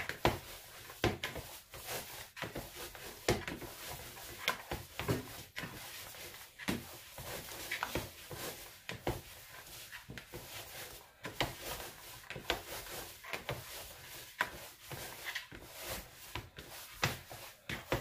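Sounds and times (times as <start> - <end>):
dough kneaded in plastic bowl: 0.0 - 18.0.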